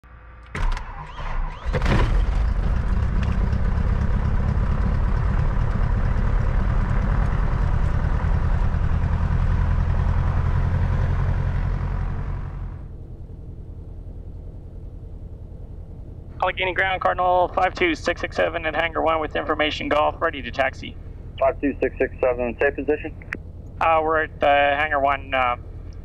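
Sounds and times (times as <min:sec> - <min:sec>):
aircraft engine starting and idling: 0:00.1 - 0:26.0.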